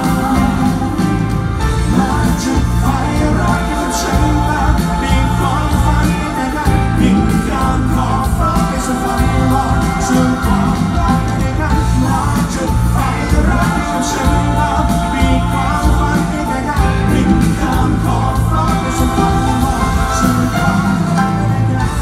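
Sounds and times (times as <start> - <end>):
band and keyboard backing: 0.0 - 22.0
pop vocal group singing: 0.0 - 22.0.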